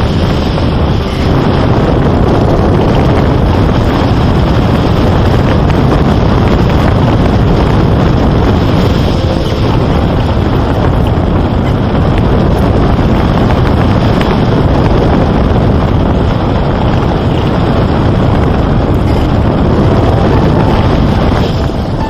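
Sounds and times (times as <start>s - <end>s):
loud rushing wind: 0.0s - 22.0s.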